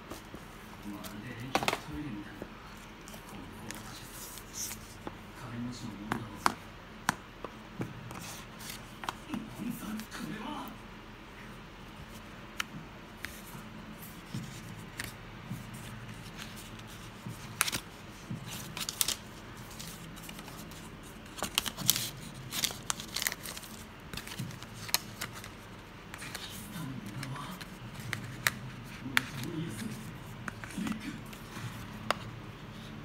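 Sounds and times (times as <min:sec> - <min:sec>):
paper and card rustling: 0:00.0 - 0:06.6, 0:07.4 - 0:10.7, 0:12.0 - 0:33.0.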